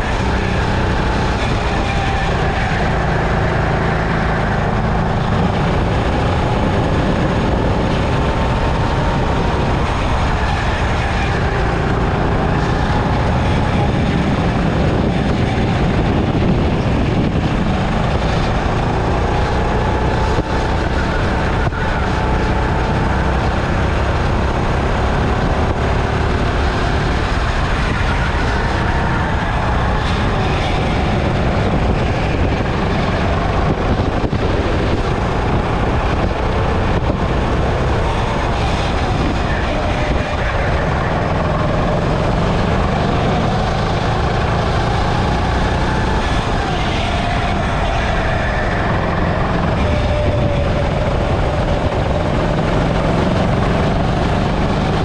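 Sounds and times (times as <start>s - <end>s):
go-kart engine running hard: 0.0s - 55.0s
wind and road noise: 0.0s - 55.0s.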